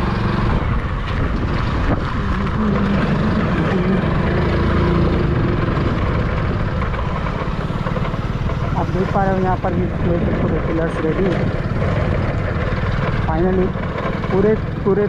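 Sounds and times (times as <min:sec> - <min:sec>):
road noise on dirt track: 0:00.0 - 0:15.0
vehicle engine rumble: 0:00.0 - 0:15.0.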